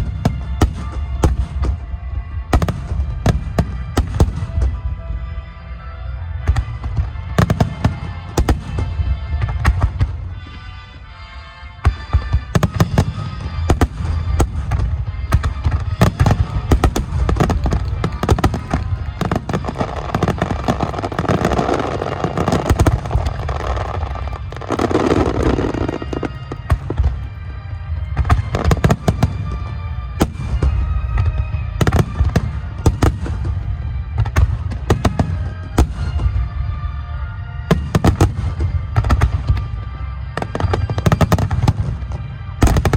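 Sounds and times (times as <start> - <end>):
music over loudspeakers: 0.0 - 42.9.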